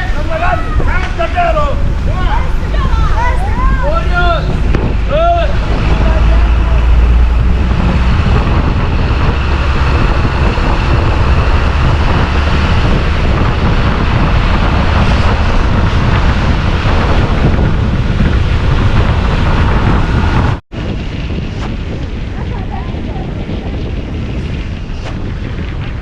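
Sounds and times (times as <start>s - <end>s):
moving vehicle rumble: 0.0s - 26.0s
wind buffeting microphone: 0.0s - 26.0s.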